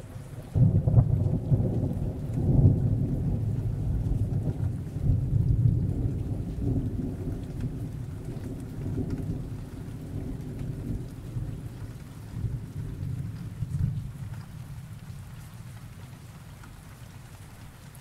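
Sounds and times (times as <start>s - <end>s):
thunder rumbling: 0.0s - 15.8s
rain falling: 0.0s - 18.0s.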